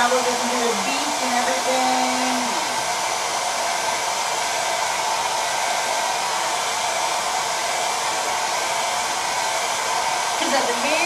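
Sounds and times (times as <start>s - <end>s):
hair dryer blowing: 0.0s - 11.0s.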